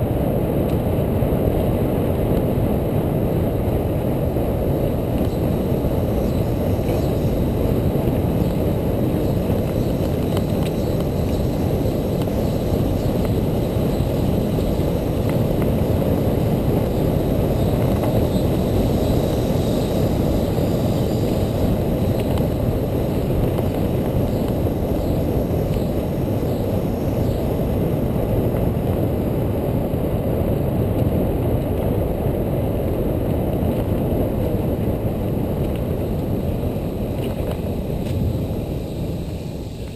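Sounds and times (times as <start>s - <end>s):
bicycle tyres rumbling on dirt: 0.0s - 39.9s
wind on microphone: 0.0s - 39.9s.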